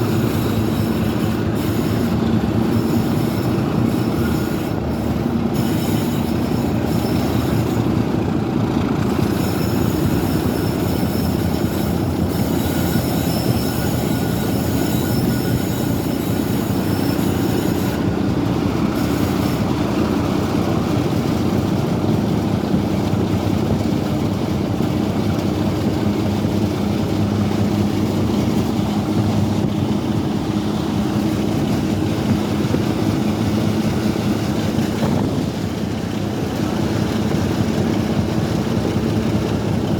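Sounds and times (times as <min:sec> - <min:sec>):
diesel locomotive engine working: 0:00.0 - 0:39.9
train wheels rumbling on rails: 0:00.0 - 0:39.9.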